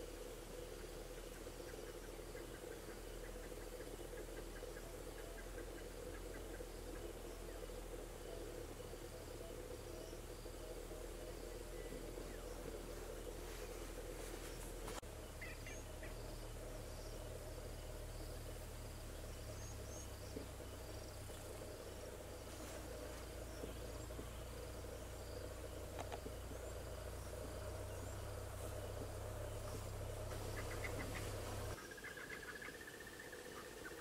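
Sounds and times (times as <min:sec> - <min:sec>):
birds chirping: 0:00.0 - 0:34.0
insects chirping: 0:00.0 - 0:34.0
steady low hum: 0:00.0 - 0:34.0.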